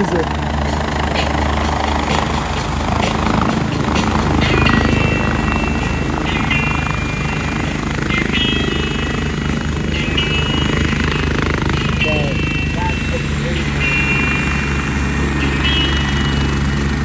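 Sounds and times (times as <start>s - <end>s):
helicopter rotor chopping: 0.0s - 17.0s
short high-pitched tones: 0.7s - 16.9s.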